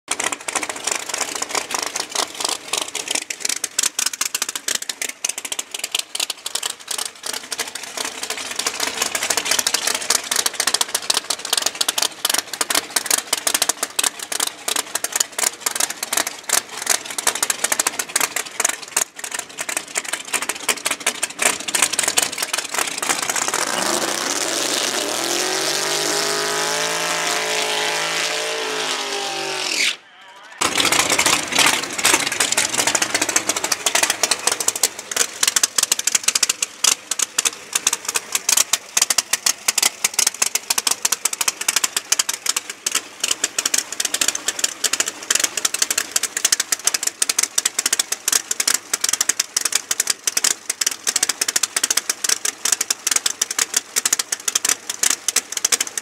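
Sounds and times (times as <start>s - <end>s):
race car engine revving: 0.1s - 55.9s.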